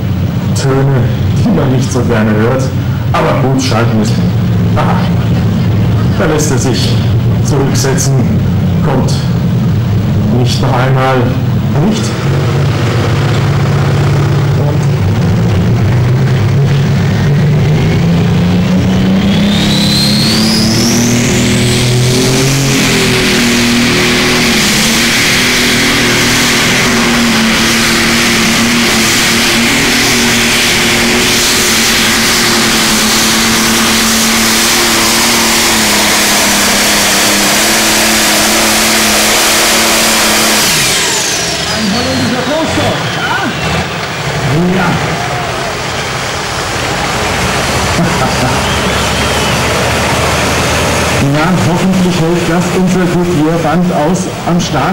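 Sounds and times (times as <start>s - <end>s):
tractor diesel engine under load: 0.0s - 54.9s
turbo whine: 0.0s - 54.9s.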